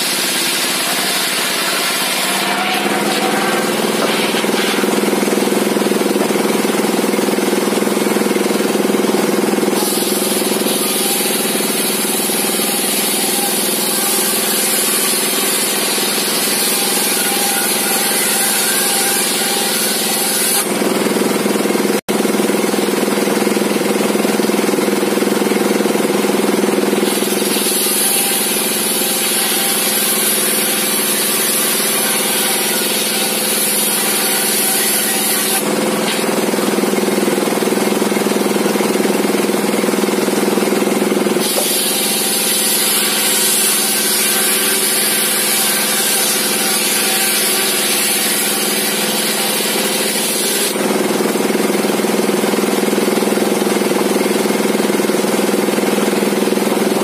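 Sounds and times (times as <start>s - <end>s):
circular saw running: 0.0s - 57.0s
saw whining through timber: 0.0s - 57.0s.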